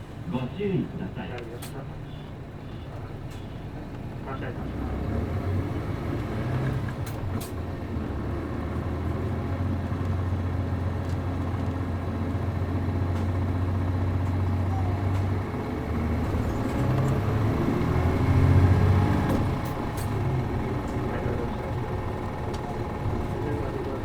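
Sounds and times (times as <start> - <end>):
bus diesel engine pulling away: 2.6 - 24.0.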